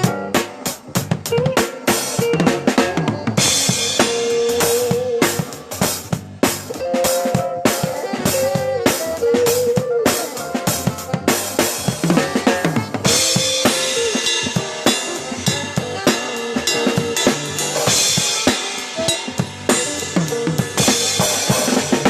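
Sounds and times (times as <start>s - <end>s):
band playing: 0.0s - 22.0s.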